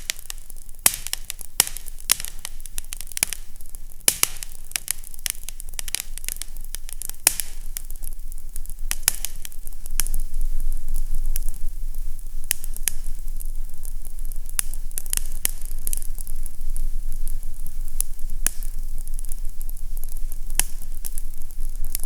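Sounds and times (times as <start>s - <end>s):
faint low hum: 0.0s - 22.0s
wood fire crackling: 0.0s - 22.0s.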